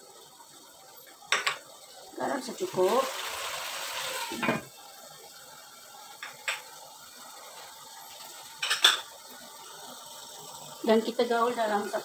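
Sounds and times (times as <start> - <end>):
muffled sizzle under lid: 0.0 - 12.0.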